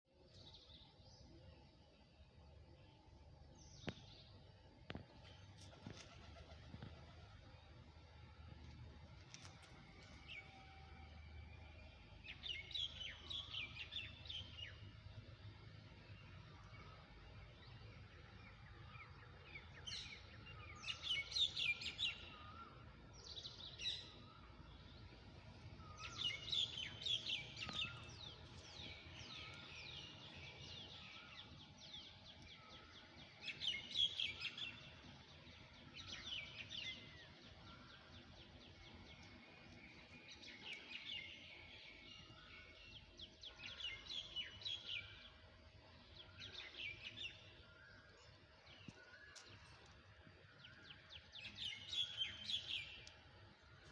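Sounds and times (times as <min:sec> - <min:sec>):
small birds chirping: 0:00.1 - 0:10.6, 0:11.7 - 0:53.9.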